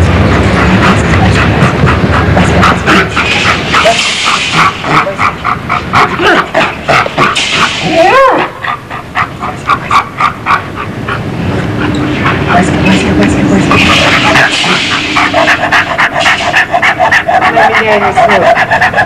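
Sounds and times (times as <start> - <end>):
dog panting: 0.0 - 19.0
dog whining: 0.0 - 19.0.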